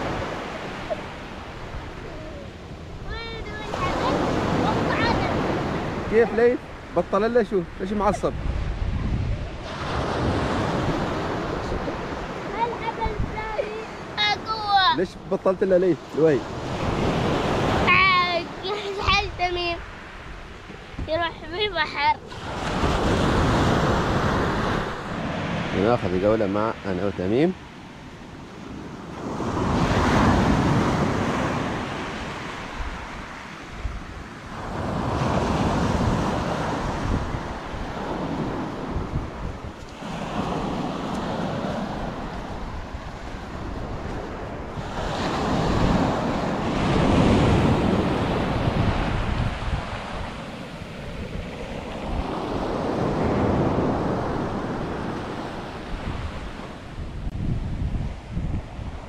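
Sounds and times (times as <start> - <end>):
wind buffeting microphone: 0.0 - 26.8, 27.4 - 59.0
sea waves breaking on beach: 0.0 - 59.0.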